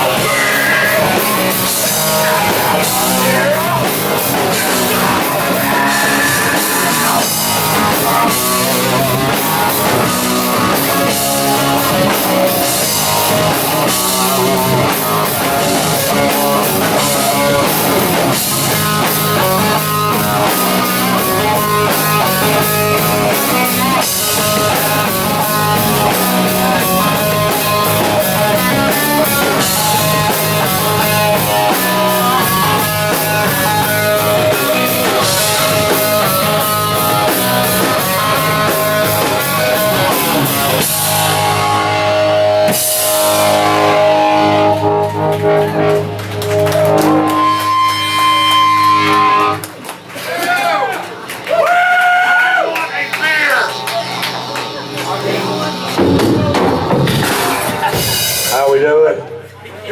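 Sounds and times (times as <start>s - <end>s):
drum kit: 0.0s - 51.5s, 53.0s - 58.9s
electric guitar: 0.0s - 59.9s.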